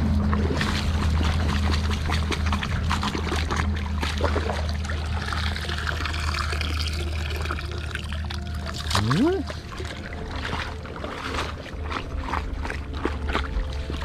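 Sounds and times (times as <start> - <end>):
low rumble: 0.0 - 14.0
water splashing and sloshing: 0.0 - 14.0.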